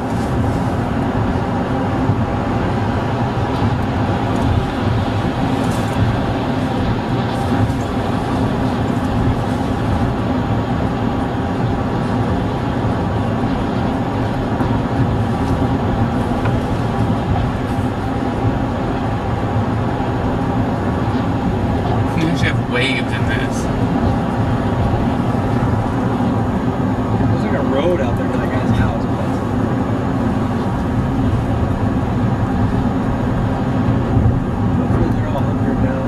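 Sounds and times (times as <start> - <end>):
car road and engine noise: 0.0 - 36.0.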